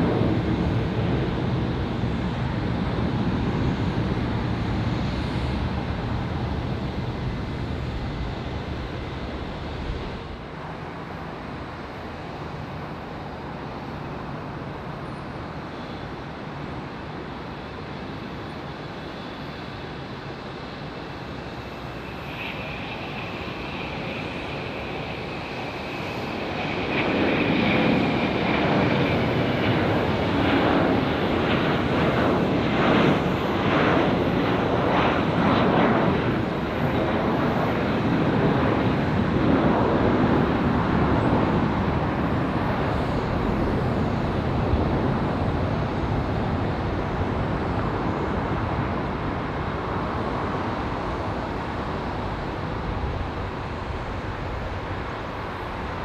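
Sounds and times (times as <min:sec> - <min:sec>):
jet engines at takeoff thrust: 0:00.0 - 0:56.0.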